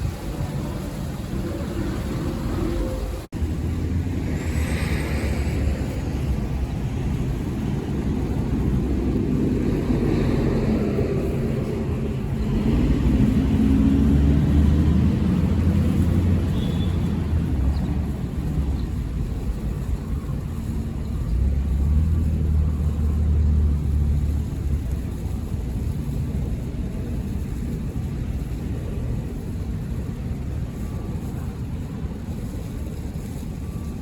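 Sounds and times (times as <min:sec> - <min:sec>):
low rumble of city traffic: 0:00.0 - 0:34.0.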